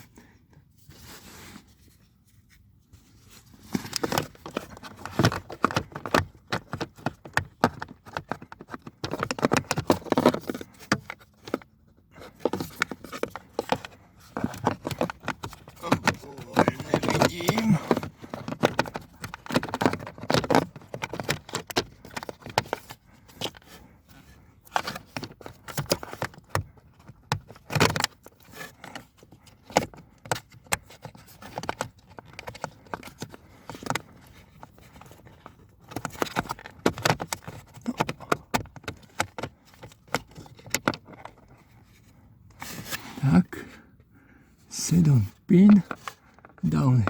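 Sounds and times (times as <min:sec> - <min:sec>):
plastic parts and tools clicking: 0:03.2 - 0:43.0, 0:45.0 - 0:47.0.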